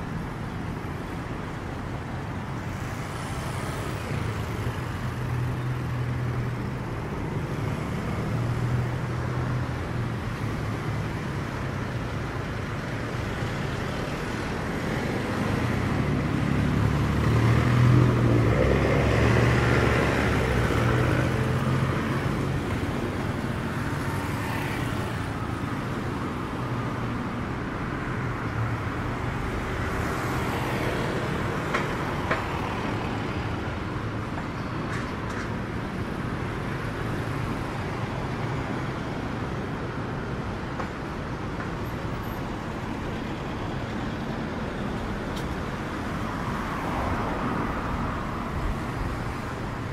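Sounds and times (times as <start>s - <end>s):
street traffic passing: 0.0s - 49.9s.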